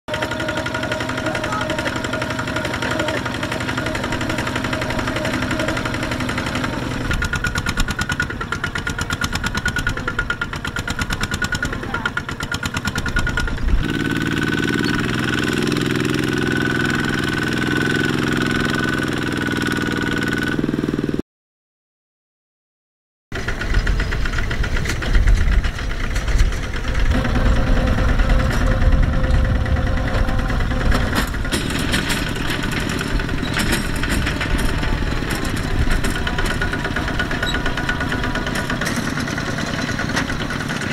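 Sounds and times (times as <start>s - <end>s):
diesel walking tractor engine: 0.1s - 21.2s, 23.3s - 40.9s.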